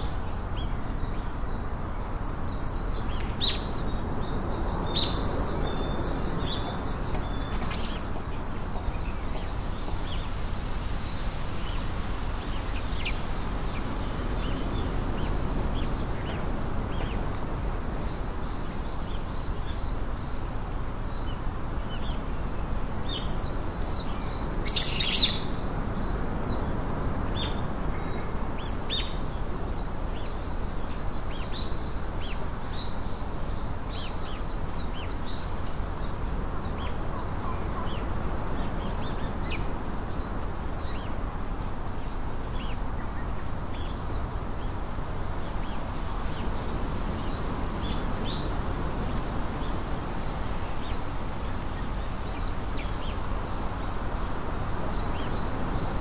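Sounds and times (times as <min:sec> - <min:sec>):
background hiss: 0:00.0 - 0:56.0
small birds chirping: 0:00.0 - 0:56.0.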